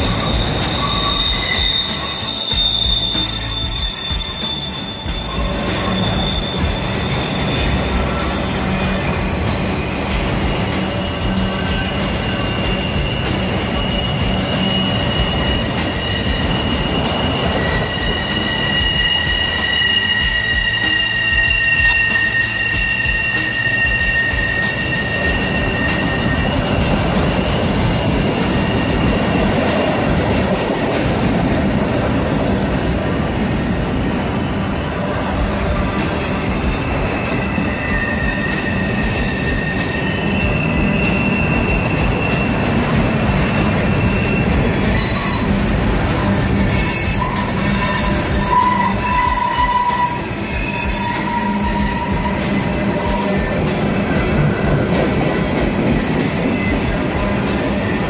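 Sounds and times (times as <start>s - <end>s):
high wheel squeal: 0.0s - 58.0s
train wheels rumbling on rails: 0.0s - 58.0s.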